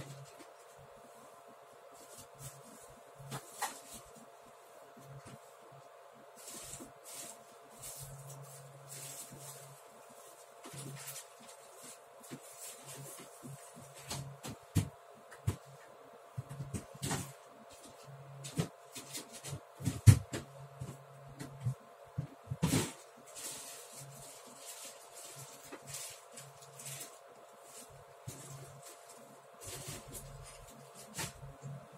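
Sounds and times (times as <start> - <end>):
faint hum: 0.0 - 31.9.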